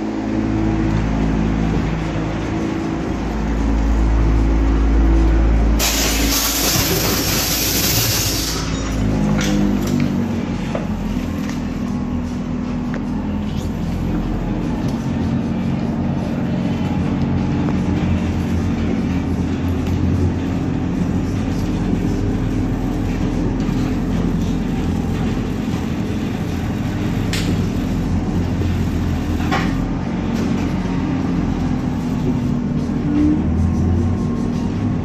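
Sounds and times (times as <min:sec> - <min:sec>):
trolleybus humming and rumbling: 0:00.0 - 0:35.0.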